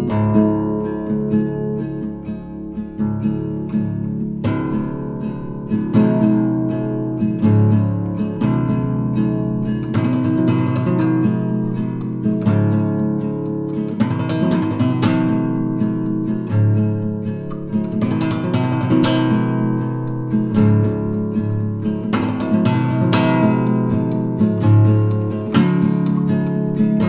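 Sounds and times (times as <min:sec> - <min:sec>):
guitar plucked and strummed: 0:00.0 - 0:27.0.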